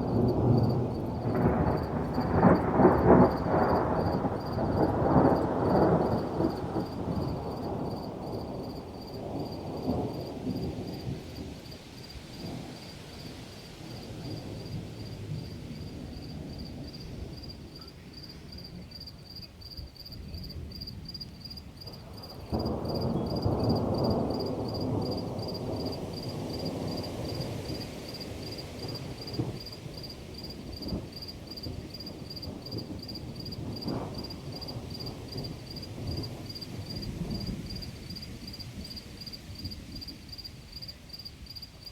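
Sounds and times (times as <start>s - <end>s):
thunder rumbling: 0.0s - 19.1s, 19.7s - 41.9s
crickets chirping: 0.0s - 41.9s.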